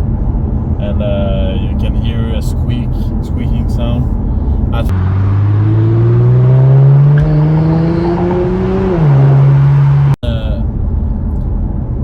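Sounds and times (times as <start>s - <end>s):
rough engine sound: 0.0s - 12.0s
car engine accelerating: 0.3s - 11.8s.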